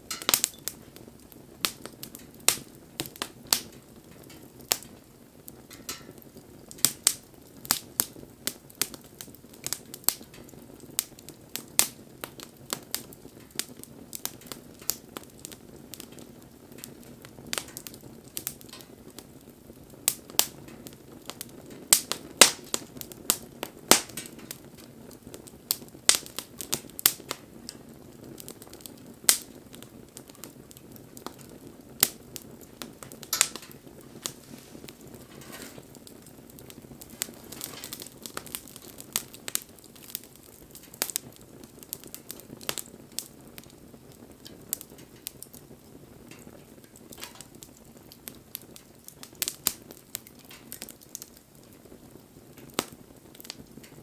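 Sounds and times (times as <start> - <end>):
low hiss of flame: 0.0 - 54.0
wood fire crackling: 0.0 - 54.0.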